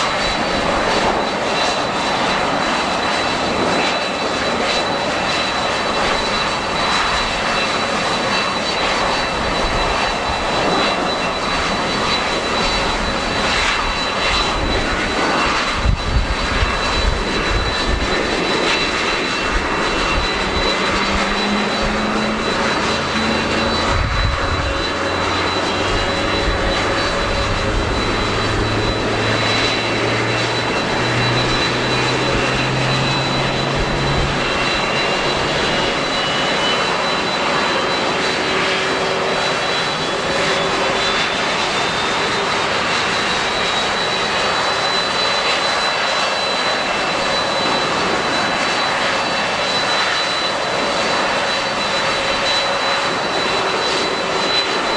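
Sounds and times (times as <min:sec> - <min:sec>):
jet engines rushing and whining: 0:00.0 - 0:54.9.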